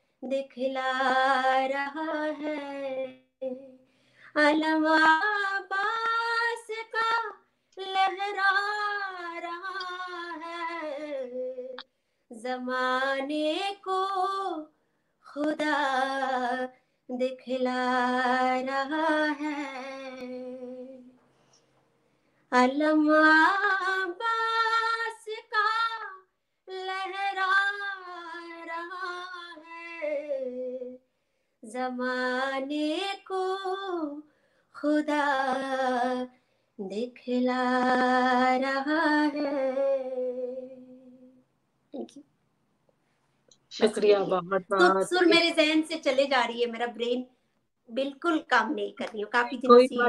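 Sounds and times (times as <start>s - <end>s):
woman singing unaccompanied: 0.2s - 14.7s, 15.3s - 21.2s, 22.5s - 31.0s, 31.6s - 34.2s, 34.8s - 41.3s, 44.7s - 45.9s, 48.0s - 50.0s.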